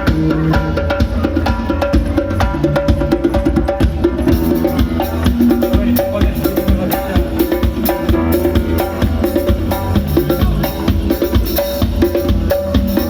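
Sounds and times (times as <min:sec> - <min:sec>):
drums and percussion rhythm: 0:00.0 - 0:13.0.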